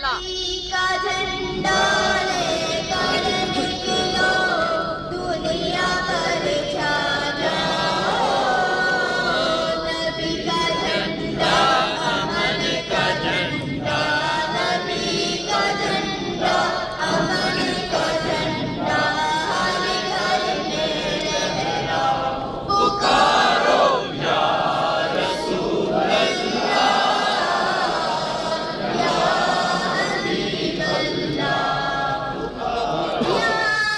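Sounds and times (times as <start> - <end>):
voices chanting in unison: 1.4 - 33.9.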